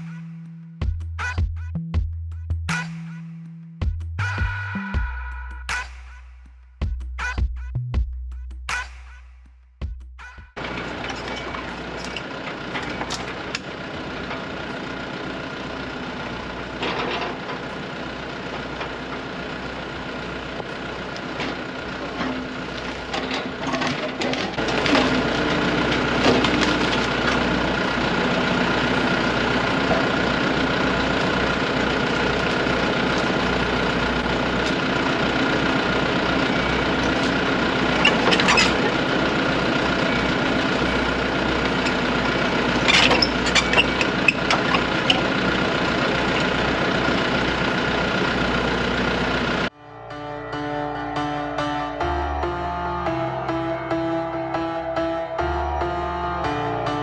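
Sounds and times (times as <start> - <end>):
excavator diesel engine running: 10.6 - 57.0.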